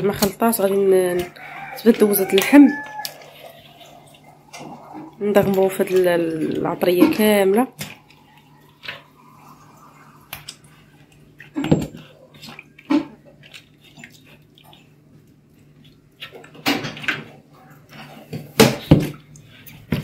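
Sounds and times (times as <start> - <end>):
wet splashes and squelches: 0.7 - 20.0.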